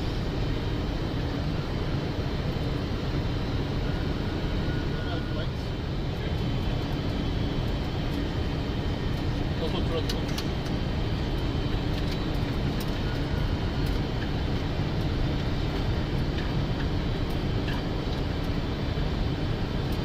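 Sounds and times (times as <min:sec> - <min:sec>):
airflow and engine rushing: 0:00.0 - 0:20.0.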